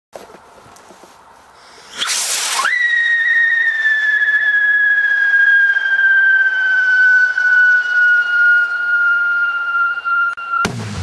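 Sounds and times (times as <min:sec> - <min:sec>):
firework rocket hissing: 0:01.6 - 0:11.0
firework whistle dropping in pitch: 0:01.9 - 0:11.0.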